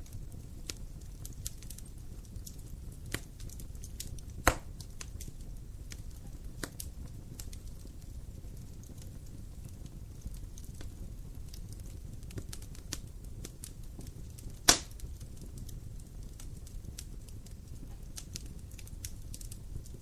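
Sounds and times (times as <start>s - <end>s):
fire snaps and pops: 0.0s - 20.0s
wood fire crackling: 0.0s - 20.0s.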